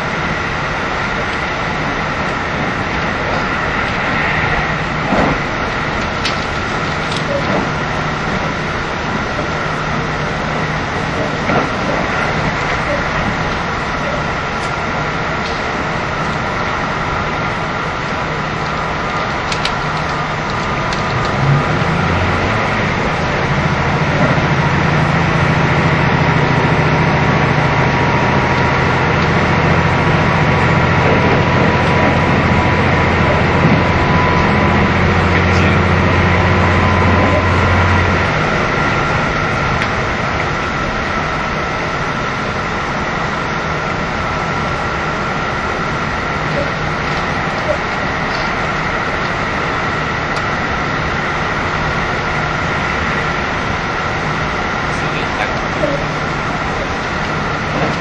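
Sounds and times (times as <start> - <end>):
diesel engine deep drone: 0.0 - 58.0
faint steady whine: 0.0 - 58.0
train wheels rolling: 0.0 - 58.0.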